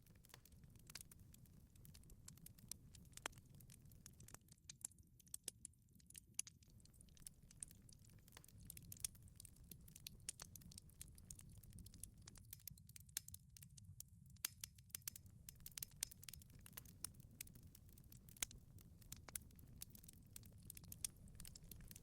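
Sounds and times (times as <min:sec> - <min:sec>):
low rumble of burning: 0:00.0 - 0:22.0
wood fire crackling and popping: 0:00.0 - 0:22.0.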